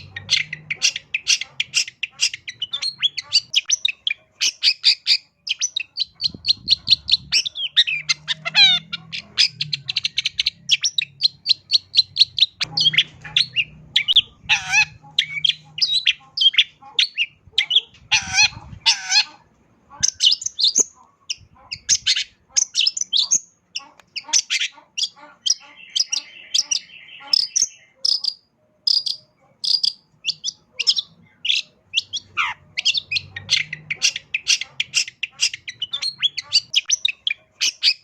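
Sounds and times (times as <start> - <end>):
bird singing chattering song: 0.0 - 38.0.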